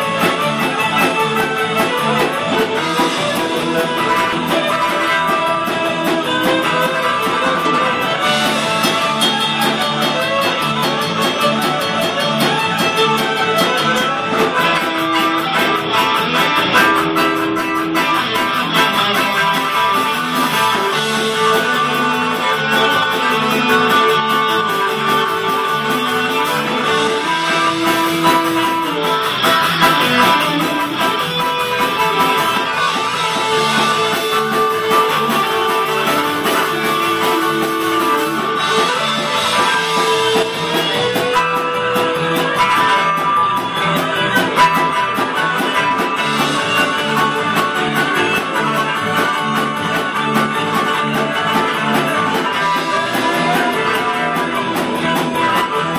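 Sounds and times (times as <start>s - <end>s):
fiddle sliding melody: 0.0s - 55.9s
rock band playing: 0.0s - 55.9s.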